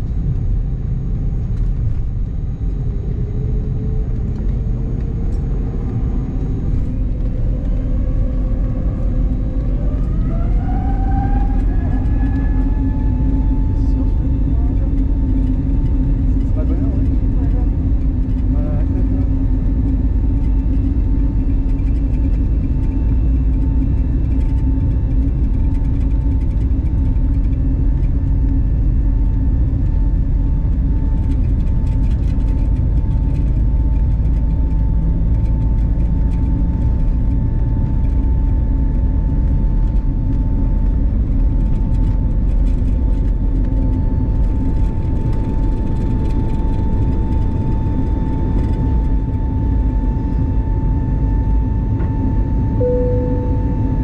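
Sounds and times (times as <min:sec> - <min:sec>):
aircraft cabin rumble: 0:00.0 - 0:54.0
constant whine: 0:00.0 - 0:54.0.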